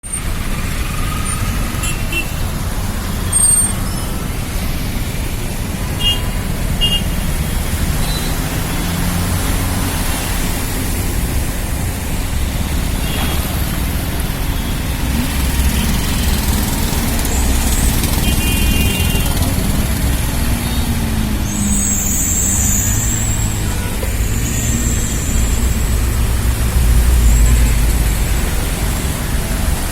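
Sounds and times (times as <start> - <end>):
road traffic rumble: 0.0 - 29.9.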